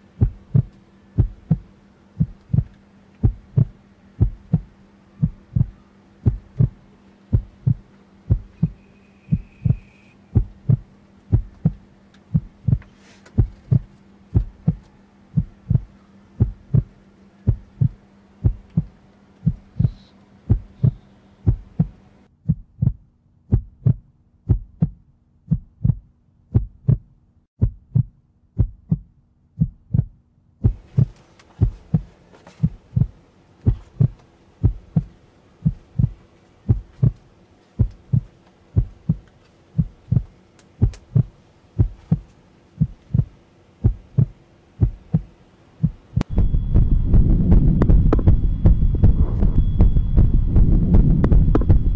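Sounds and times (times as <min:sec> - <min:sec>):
low hum: 0:00.0 - 0:51.9
heartbeat double thumps: 0:00.2 - 0:14.8, 0:15.4 - 0:37.2, 0:37.8 - 0:51.9.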